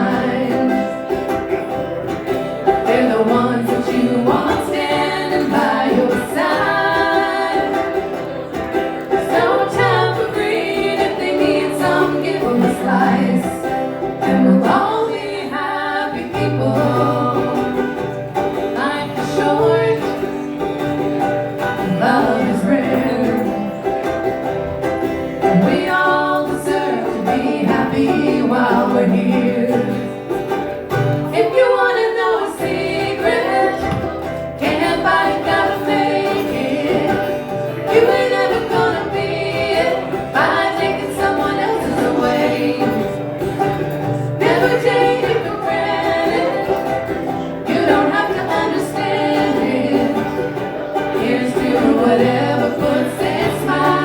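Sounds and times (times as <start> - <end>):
person singing: 0.0 - 1.3, 2.7 - 8.3, 9.0 - 20.4, 21.6 - 24.2, 25.4 - 30.4, 31.3 - 54.0
strummed string instrument: 0.0 - 54.0.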